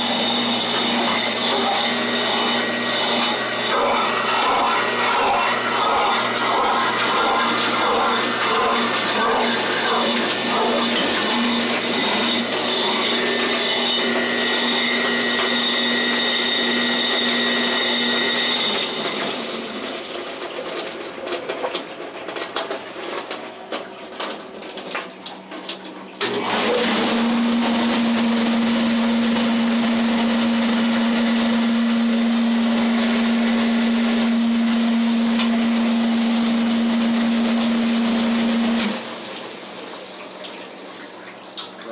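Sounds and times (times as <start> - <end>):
dishwasher pump motor whining: 0.0 - 20.5, 26.2 - 39.7.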